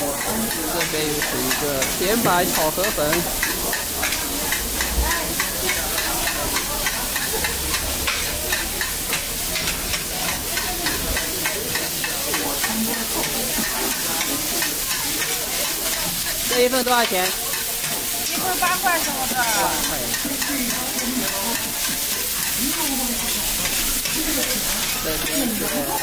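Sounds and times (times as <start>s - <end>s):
noodles sizzling in a wok: 0.0s - 26.0s
metal spatula scraping a wok: 0.1s - 26.0s.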